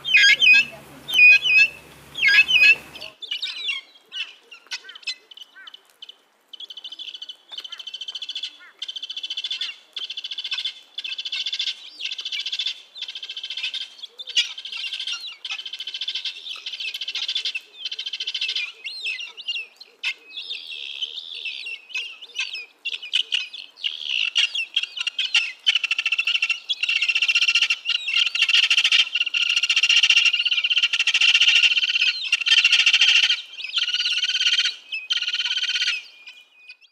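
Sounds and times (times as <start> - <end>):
guineafowl calling: 0.0 - 5.9, 6.6 - 36.9.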